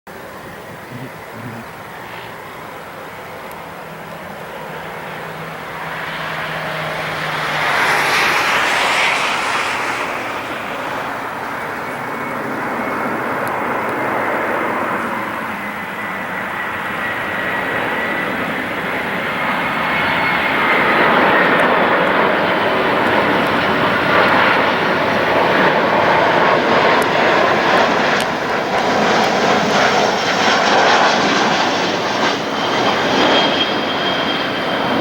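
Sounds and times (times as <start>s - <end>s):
jet airliner landing: 0.1s - 35.0s
thin high engine whine: 0.1s - 35.0s.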